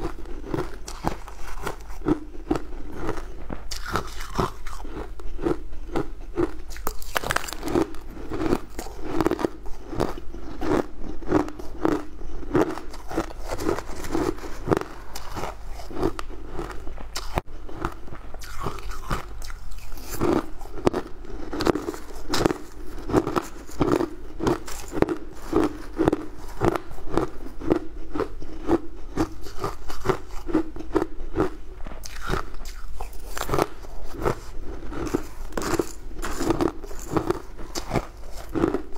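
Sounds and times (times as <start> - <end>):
chewing ice crunches: 0.0 - 38.9.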